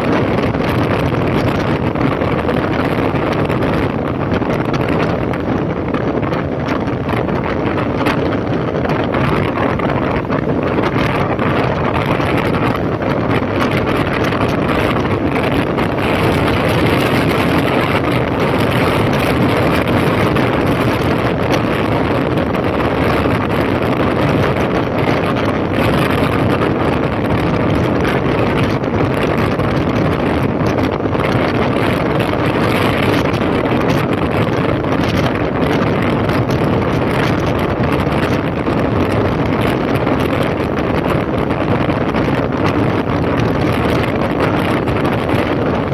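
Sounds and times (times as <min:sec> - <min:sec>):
wind noise on microphone: 0:00.0 - 0:45.9.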